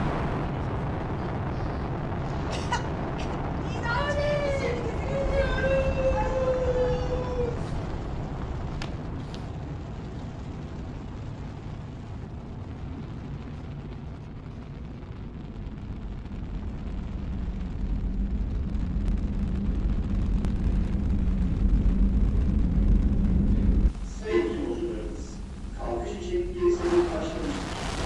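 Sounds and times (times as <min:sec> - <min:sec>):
spaceship take-off rumble: 0:00.0 - 0:28.0.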